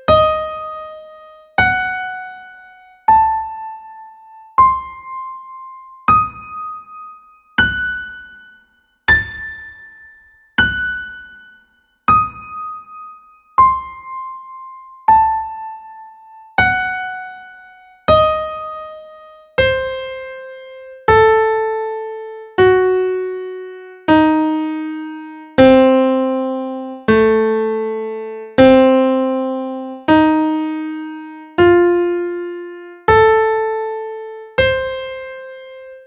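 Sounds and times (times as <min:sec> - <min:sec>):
piano arpeggio notes: 0:00.0 - 0:36.0.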